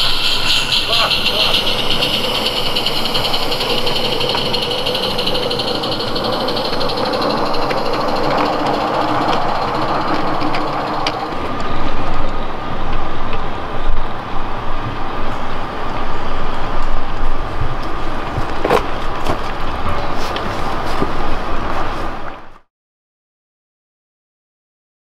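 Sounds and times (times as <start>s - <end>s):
steam locomotive running: 0.0s - 22.4s
distant steam train rumble: 0.0s - 22.5s
wheels on rails: 0.0s - 22.6s.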